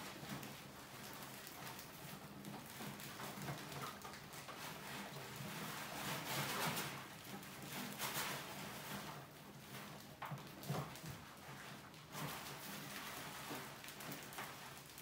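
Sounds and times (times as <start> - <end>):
mice scurrying on plastic: 0.0 - 15.0.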